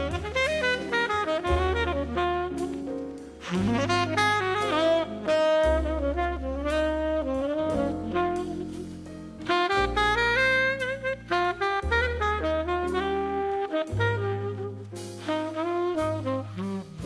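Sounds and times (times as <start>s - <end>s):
jazz band playing slow ballad: 0.0s - 17.0s
saxophone melody: 0.0s - 17.0s
sustained bass notes: 0.0s - 17.0s.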